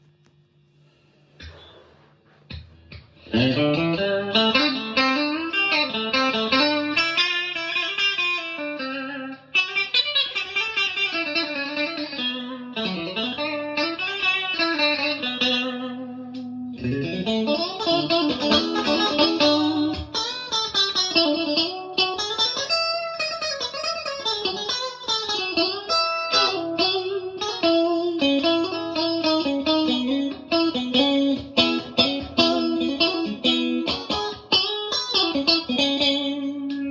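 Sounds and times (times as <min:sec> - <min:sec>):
electric guitar notes and chords: 0:02.5 - 0:36.9.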